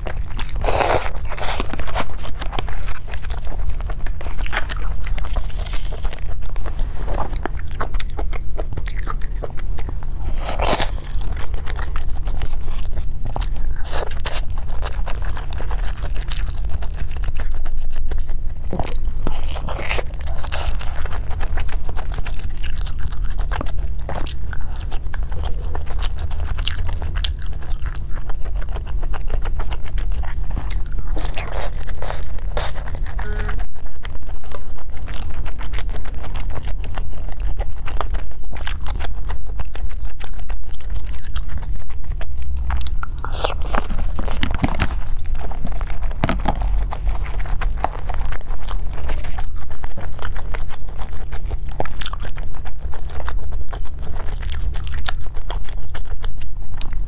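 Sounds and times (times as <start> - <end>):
low hum: 0.0 - 57.0
person chewing: 0.0 - 57.0.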